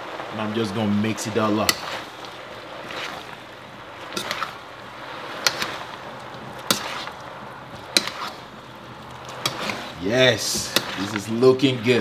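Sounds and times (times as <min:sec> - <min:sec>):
food sizzling: 0:00.0 - 0:12.0.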